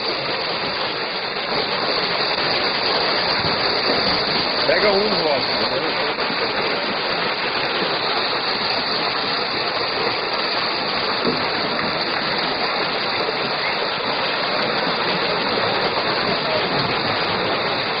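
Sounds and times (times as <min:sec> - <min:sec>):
fish thrashing and splashing water: 0:00.0 - 0:18.0.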